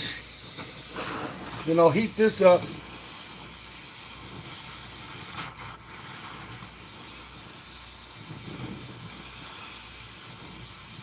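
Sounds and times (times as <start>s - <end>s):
torch burning with a hiss: 0.0s - 11.0s.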